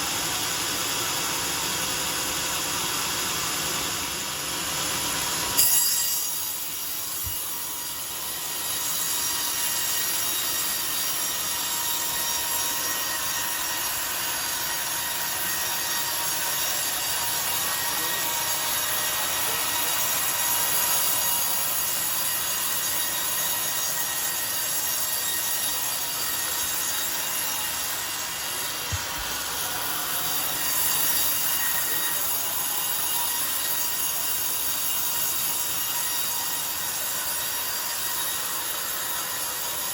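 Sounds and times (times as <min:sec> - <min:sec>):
circular saw cutting log: 0:00.1 - 0:39.9.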